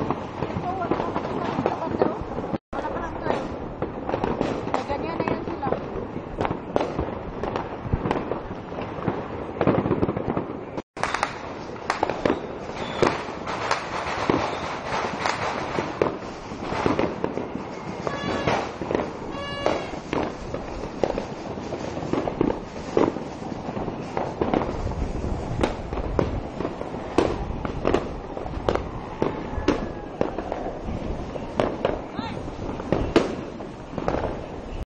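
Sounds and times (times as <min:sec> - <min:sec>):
fireworks bangs and crackles: 0:00.0 - 0:34.8.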